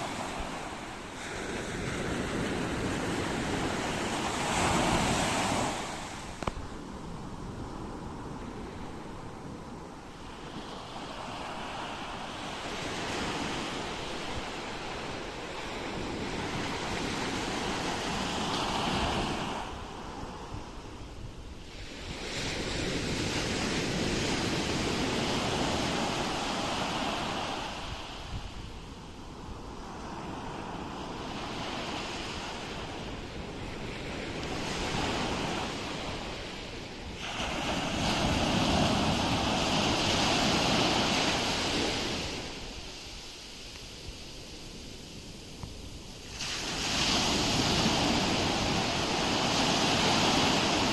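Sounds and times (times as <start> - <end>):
ocean waves breaking on shore: 0.0 - 50.9
wind on microphone: 0.0 - 50.9.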